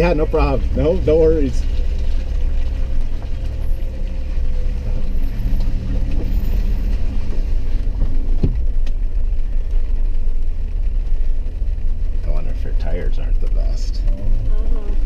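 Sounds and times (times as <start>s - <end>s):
car driving on dirt road: 0.0s - 15.0s.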